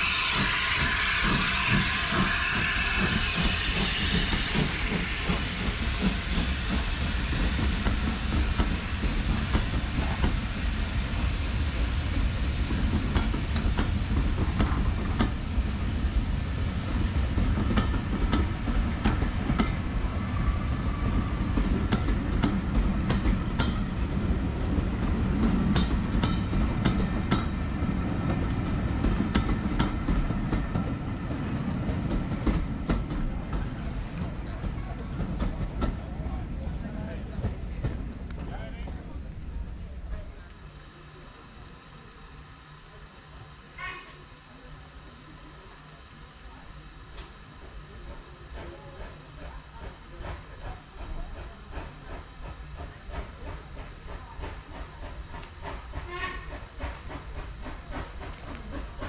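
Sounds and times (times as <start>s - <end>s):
steam hissing: 0.0s - 35.8s, 39.2s - 59.0s
train wheels rumbling: 0.0s - 59.0s.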